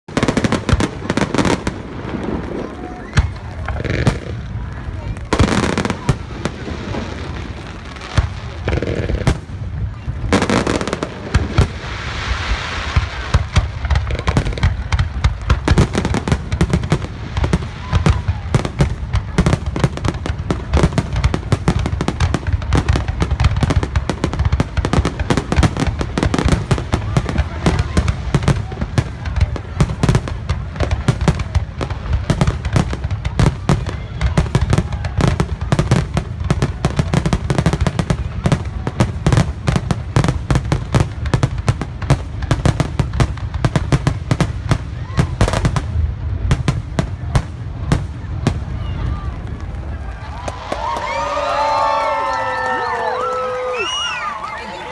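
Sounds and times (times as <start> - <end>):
fireworks booming and cracking: 0.0 - 54.9.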